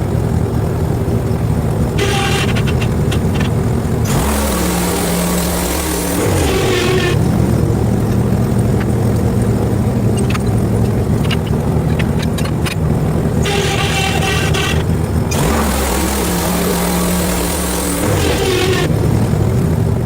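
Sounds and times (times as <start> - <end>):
sharp clicks and ticks: 0.0 - 19.8
engine running: 0.0 - 20.0.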